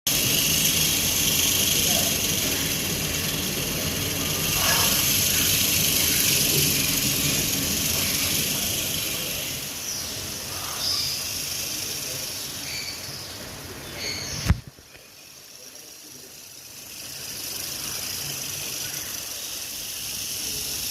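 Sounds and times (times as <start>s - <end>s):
porcupine quills rattling: 0.1s - 13.1s, 15.3s - 20.9s.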